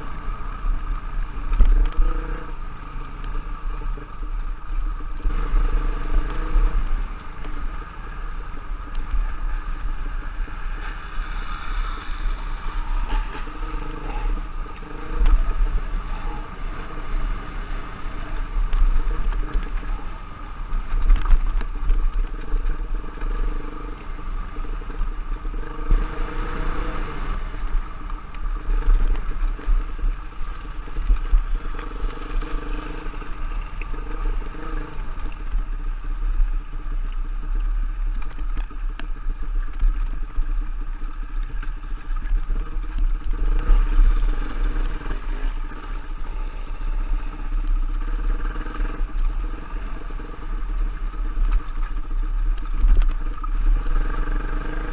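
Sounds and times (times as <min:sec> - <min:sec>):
trail bike engine revving: 0:00.0 - 0:54.9.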